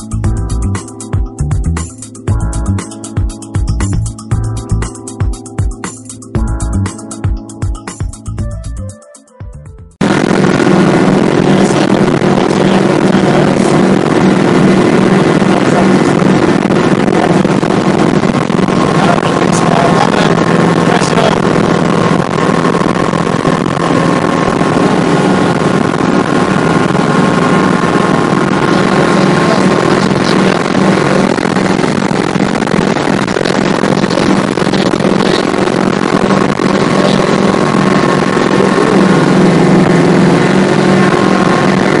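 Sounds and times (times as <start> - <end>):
helicopter engine and rotor drone: 0.0 - 8.3, 10.0 - 42.0.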